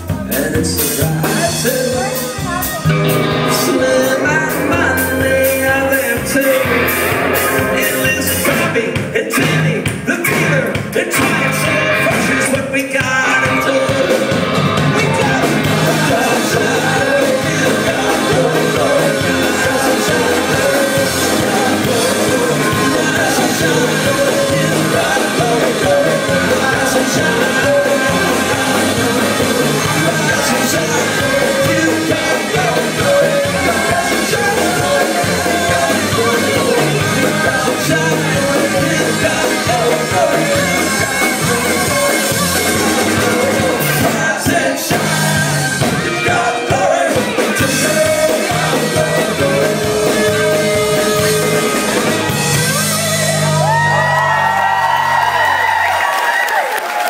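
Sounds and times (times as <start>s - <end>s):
person singing: 0.0s - 53.9s
upright bass: 0.0s - 56.2s
drums: 0.0s - 57.0s
guitar: 0.0s - 57.0s.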